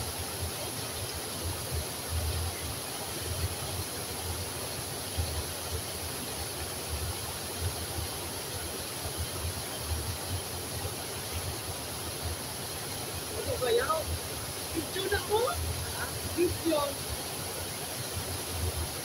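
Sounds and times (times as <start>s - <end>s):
river water pouring over weir: 0.0s - 19.0s.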